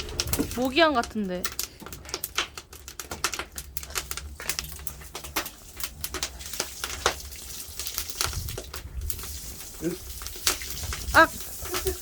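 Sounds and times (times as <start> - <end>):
firewood crackling and popping: 0.0 - 12.0.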